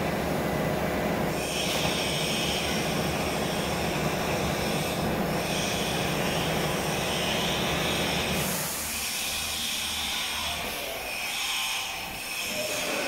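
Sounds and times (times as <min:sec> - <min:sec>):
cnc router running with a hiss: 0:00.0 - 0:13.0.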